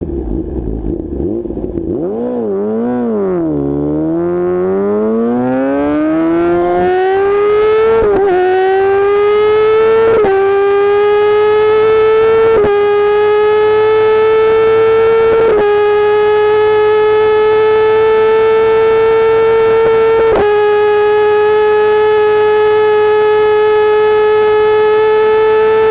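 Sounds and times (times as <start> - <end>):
motorcycle engine revving: 0.0 - 25.9
motorcycle upshifts: 0.1 - 25.9.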